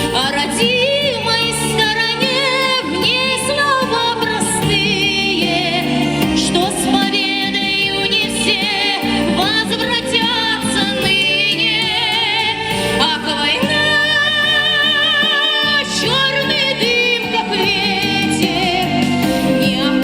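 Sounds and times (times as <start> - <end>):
instrumental accompaniment: 0.0 - 20.0
woman singing with vibrato: 0.0 - 20.0.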